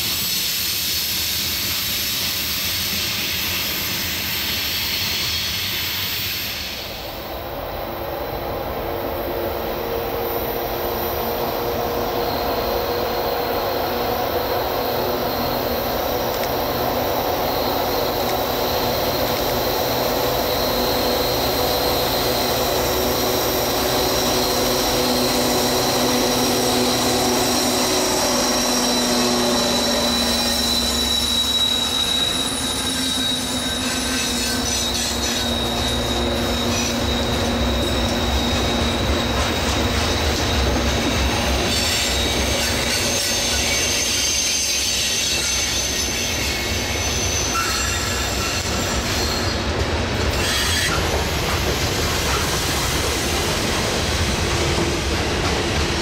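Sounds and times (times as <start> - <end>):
freight train cars hissing: 0.0 - 56.0
locomotive engine hum and whine: 0.0 - 56.0.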